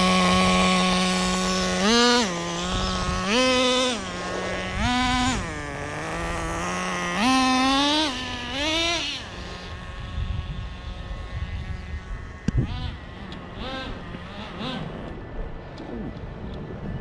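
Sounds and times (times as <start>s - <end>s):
small glow engine revving: 0.0s - 15.2s.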